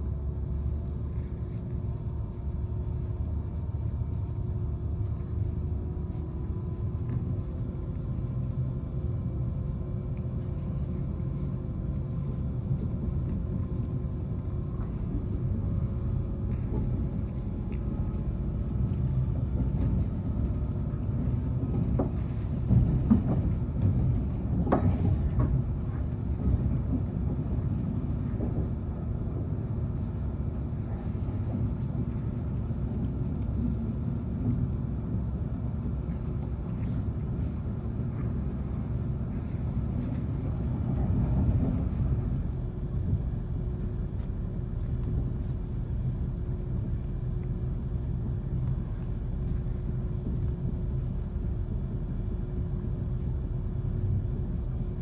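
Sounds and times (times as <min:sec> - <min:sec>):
faint diesel engine hum: 0:00.0 - 0:55.0
train wheels rumbling on rail: 0:00.0 - 0:55.0.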